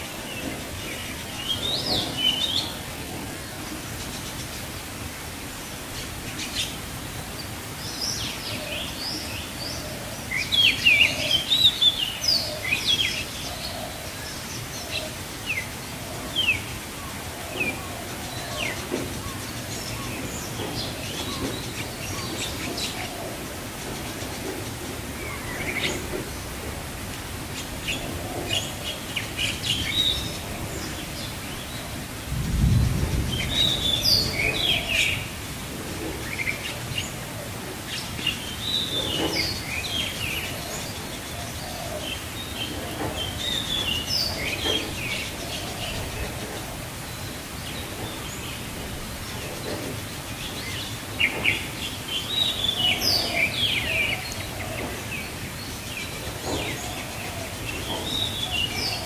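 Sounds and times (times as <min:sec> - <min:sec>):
birds chirping: 0:00.0 - 0:59.0
steady rain: 0:00.0 - 0:59.0.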